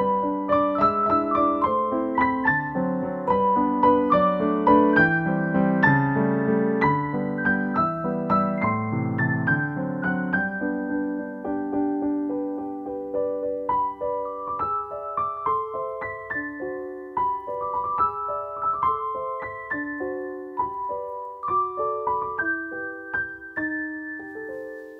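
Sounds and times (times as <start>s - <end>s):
gentle piano melody: 0.0s - 24.9s
low piano chords: 0.0s - 24.9s.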